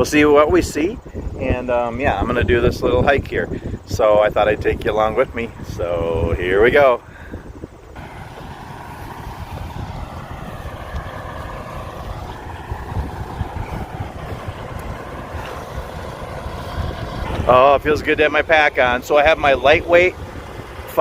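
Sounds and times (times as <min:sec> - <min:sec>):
hum of vehicle traffic: 0:00.0 - 0:21.0
wind buffeting microphone: 0:00.0 - 0:21.0.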